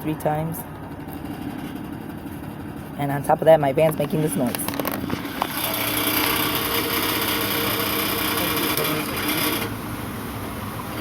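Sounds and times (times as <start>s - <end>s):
van mechanical whir: 0.0s - 11.0s.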